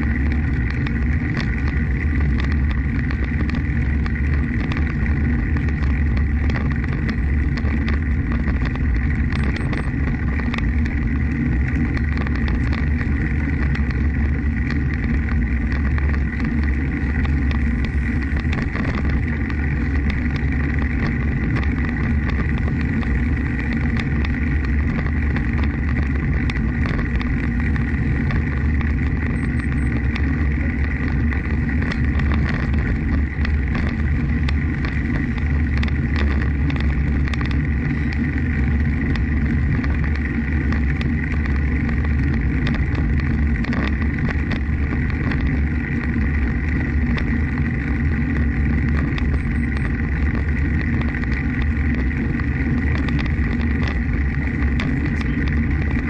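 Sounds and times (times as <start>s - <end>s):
faint steady whine: 0.0s - 56.0s
low rolling rumble: 0.0s - 56.0s
small rattles: 0.0s - 56.0s
wind buffeting microphone: 0.0s - 56.0s.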